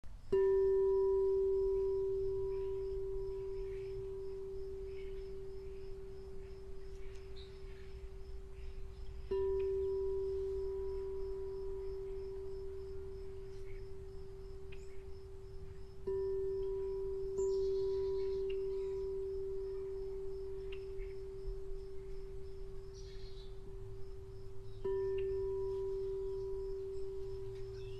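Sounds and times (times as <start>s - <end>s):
metal instrument ringing: 0.3s - 27.9s.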